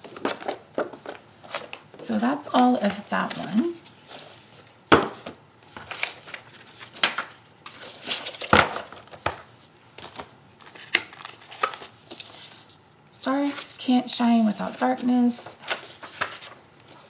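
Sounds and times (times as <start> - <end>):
paper and plastic rustling: 0.0 - 17.0.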